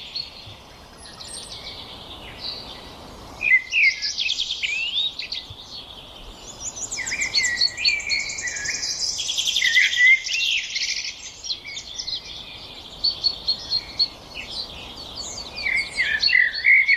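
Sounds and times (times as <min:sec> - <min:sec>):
songbirds chirping and trilling: 0:00.0 - 0:16.9.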